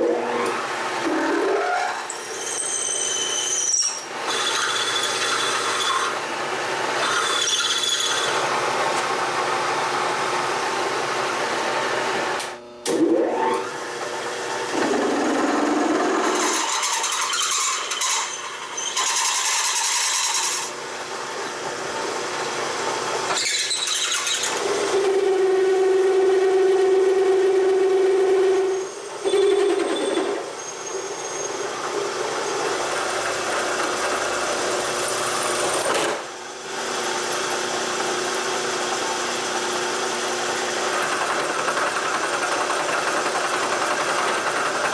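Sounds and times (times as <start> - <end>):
metal cutting noise: 0.0 - 6.2, 14.6 - 44.9
milling machine motor hum: 4.1 - 44.9.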